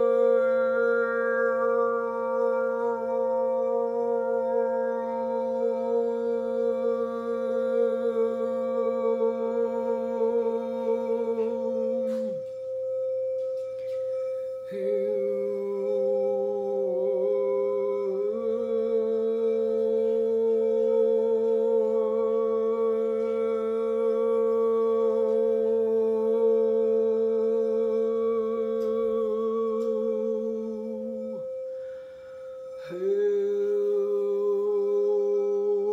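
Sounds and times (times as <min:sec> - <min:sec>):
woman humming: 0:00.0 - 0:31.7
singing bowl ringing: 0:00.0 - 0:35.9.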